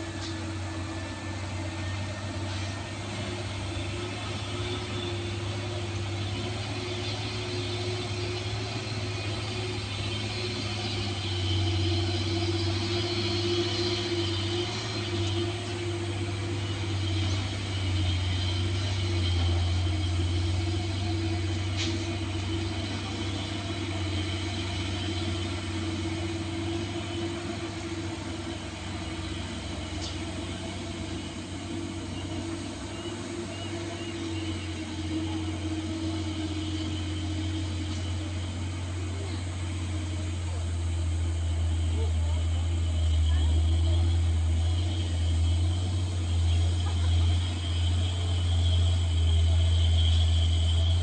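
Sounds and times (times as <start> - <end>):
truck engine humming: 0.0 - 51.0.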